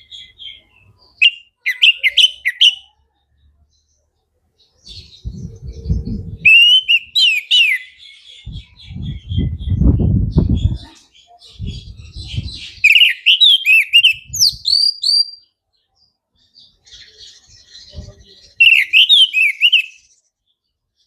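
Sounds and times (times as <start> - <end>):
thrush singing whistled notes: 0.0 - 2.9, 4.9 - 15.5, 16.7 - 20.2.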